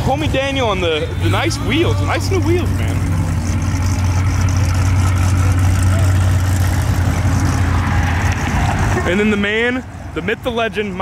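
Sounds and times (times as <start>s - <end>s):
car engine exhaust drone: 0.0s - 11.0s.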